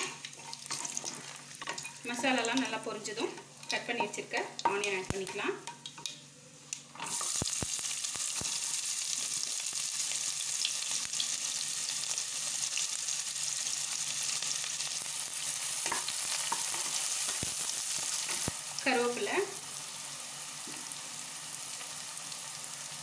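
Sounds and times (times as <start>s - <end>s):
onions sizzling in hot oil: 0.0s - 23.0s.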